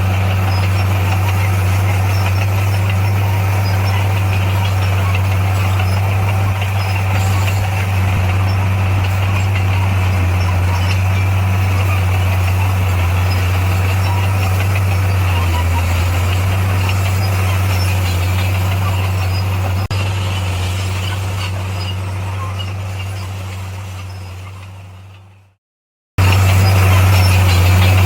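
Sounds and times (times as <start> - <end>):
bulldozer diesel engine running: 0.0 - 25.6, 26.2 - 28.0.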